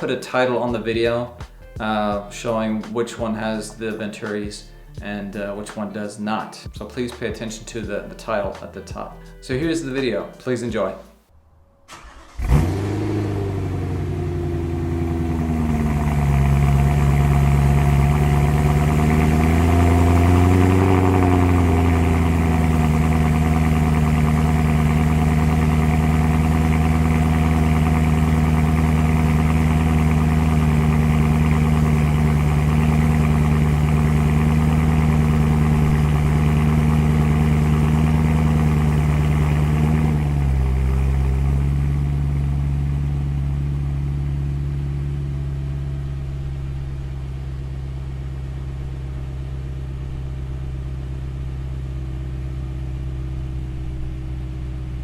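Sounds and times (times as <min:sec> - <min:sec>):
car engine cold start and idle: 0:00.0 - 0:06.1, 0:06.7 - 0:55.0.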